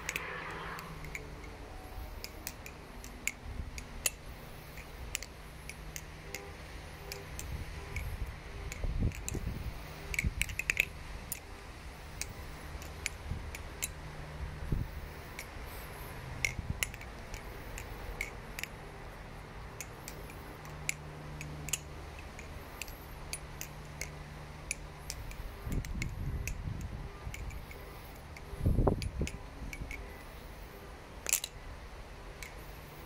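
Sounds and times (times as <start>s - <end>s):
butterfly knife clicking: 0.0s - 14.0s, 14.7s - 19.0s, 19.7s - 30.6s, 31.2s - 31.6s, 32.3s - 33.0s.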